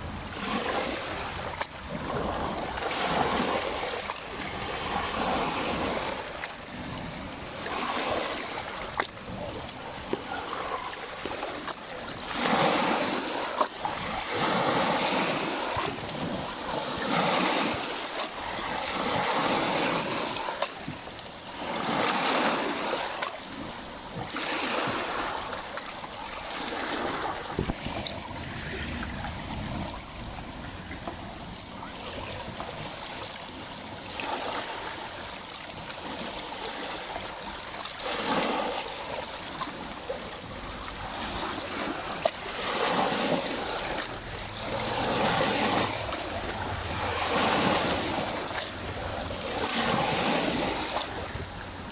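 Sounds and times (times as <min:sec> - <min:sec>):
small waves washing: 0:00.0 - 0:51.9.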